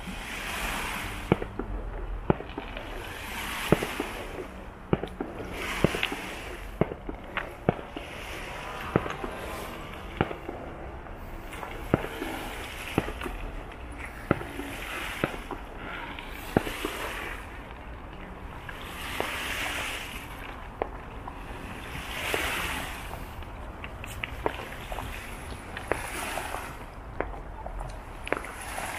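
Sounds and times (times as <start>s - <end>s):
fireworks bangs: 0.0s - 17.7s, 18.5s - 28.9s
fireworks hissing: 2.6s - 17.7s, 18.5s - 26.8s.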